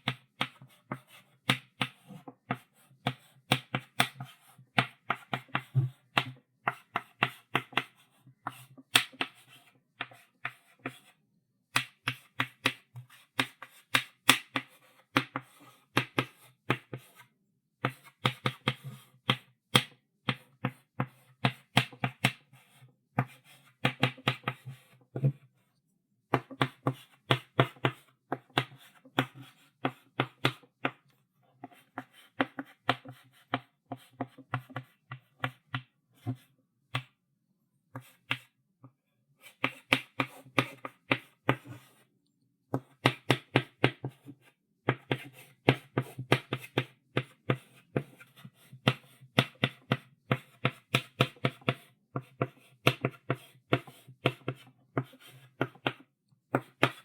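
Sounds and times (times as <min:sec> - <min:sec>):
chalk tapping on blackboard: 0:00.0 - 0:11.1, 0:11.7 - 0:25.3, 0:31.6 - 0:37.2, 0:37.9 - 0:38.5, 0:39.4 - 0:42.0, 0:42.7 - 0:57.0.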